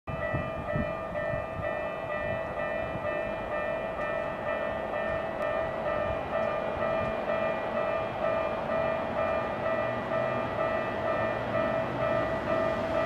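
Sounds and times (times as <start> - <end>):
level crossing warning bell: 0.1 - 13.0.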